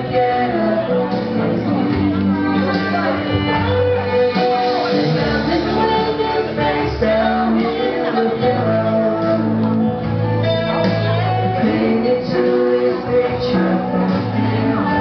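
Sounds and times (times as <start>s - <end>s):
instrumental accompaniment: 0.0s - 15.0s
man and woman singing duet: 0.0s - 15.0s.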